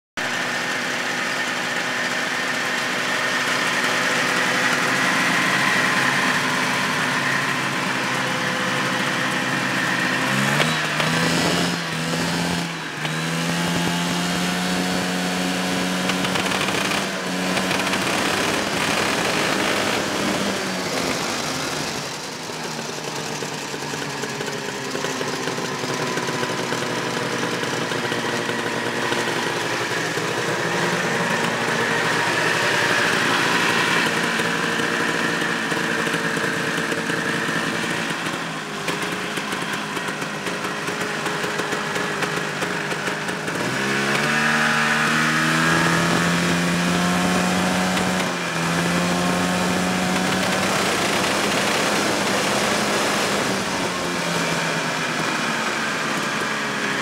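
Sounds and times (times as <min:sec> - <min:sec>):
snowmobile engine idling and revving: 0:00.0 - 0:57.0.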